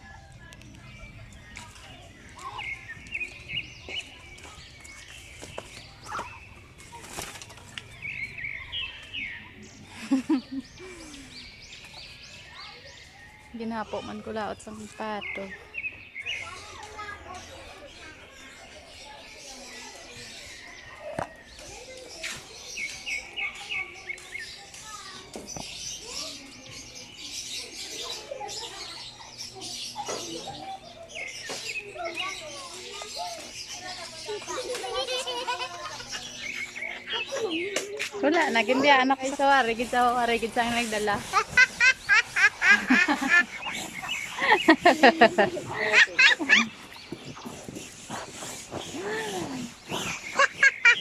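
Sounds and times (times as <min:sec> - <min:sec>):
lovebirds chirping: 0:00.0 - 0:51.0.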